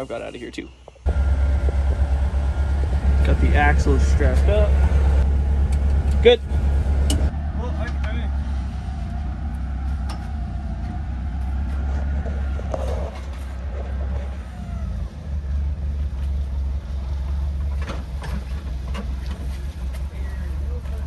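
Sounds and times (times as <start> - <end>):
forklift engine running: 0.9 - 21.0.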